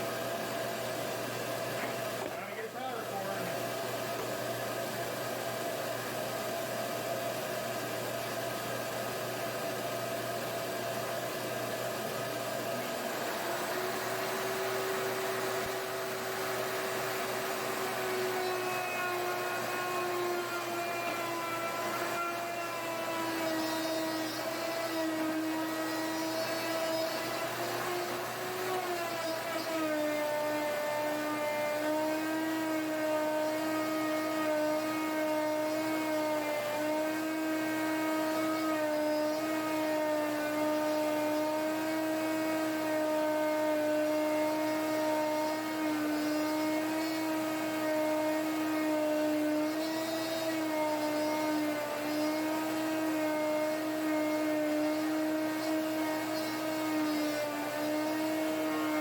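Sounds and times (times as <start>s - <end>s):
electric router whining: 0.0s - 59.0s
shop vacuum running: 0.0s - 59.0s.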